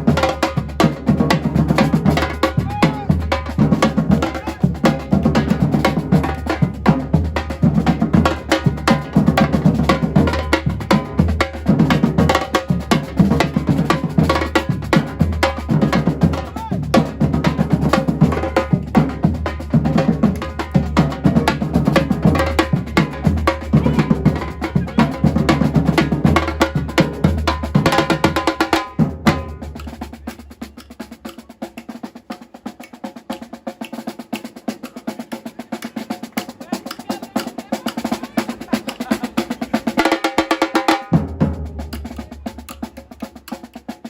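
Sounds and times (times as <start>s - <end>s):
deep drums: 0.0s - 31.1s, 37.4s - 43.5s
samba drum group playing: 0.0s - 44.0s.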